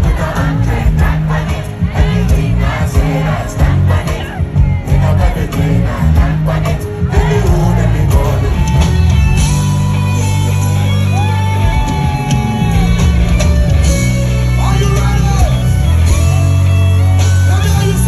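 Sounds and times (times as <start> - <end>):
live concert music with heavy bass: 0.0 - 18.0.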